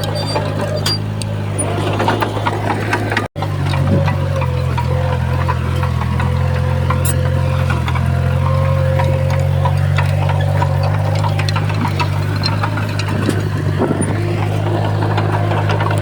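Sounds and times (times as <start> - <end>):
bulldozer diesel engine running: 0.0 - 16.0
clicks: 0.0 - 16.0.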